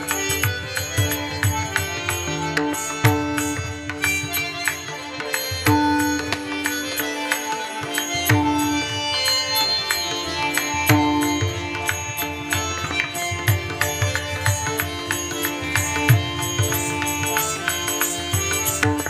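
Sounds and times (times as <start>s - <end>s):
devotional instrumental music: 0.0s - 19.0s.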